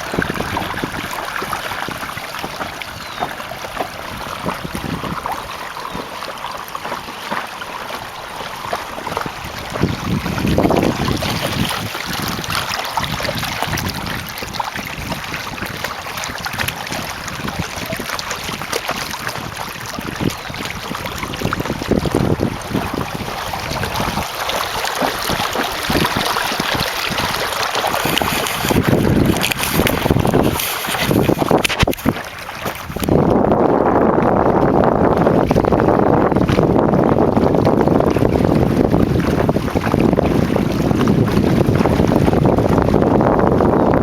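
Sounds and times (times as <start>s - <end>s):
water rushing and splashing: 0.0s - 44.0s
wind buffeting microphone: 0.0s - 44.0s.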